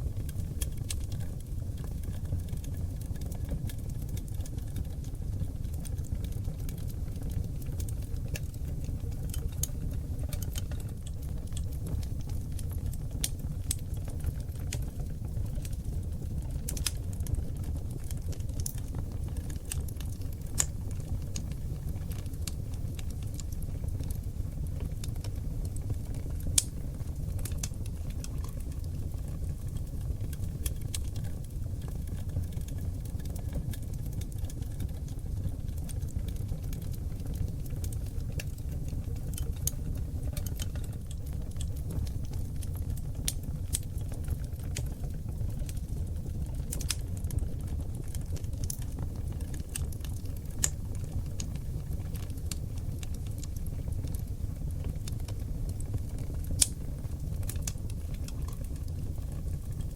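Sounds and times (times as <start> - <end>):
fire crackling: 0.0 - 59.9
fire popping: 0.0 - 59.9
fire rumbling: 0.0 - 59.9.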